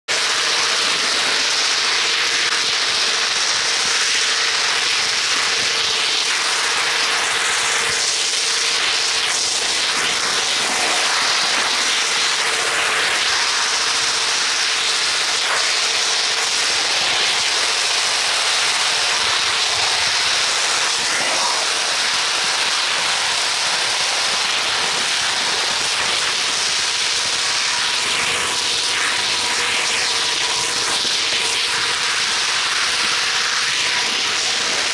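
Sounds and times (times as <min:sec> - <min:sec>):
constant hum: 0:00.1 - 0:34.9.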